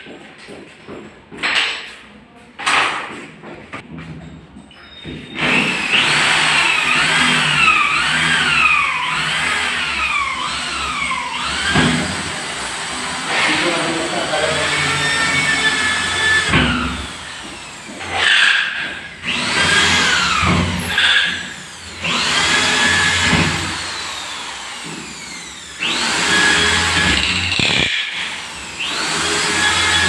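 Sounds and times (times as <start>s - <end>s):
electric drill motor whining: 5.4s - 30.0s.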